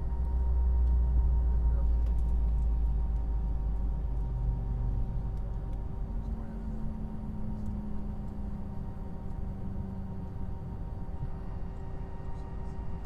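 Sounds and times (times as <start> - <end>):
airliner systems rumble: 0.0 - 13.0
constant humming tones: 0.0 - 13.0.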